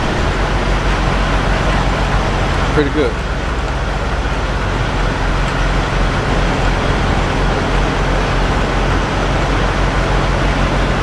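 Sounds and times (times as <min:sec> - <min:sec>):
road traffic noise: 0:00.0 - 0:11.0
vehicle engine hum: 0:00.0 - 0:11.0.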